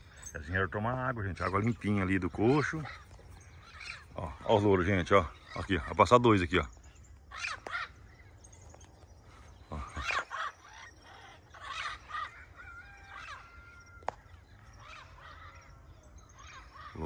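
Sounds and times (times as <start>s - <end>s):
parrots squawking: 0.0s - 6.7s, 7.3s - 8.6s, 9.4s - 13.8s, 14.6s - 17.0s
whistled bird notes: 0.0s - 17.0s.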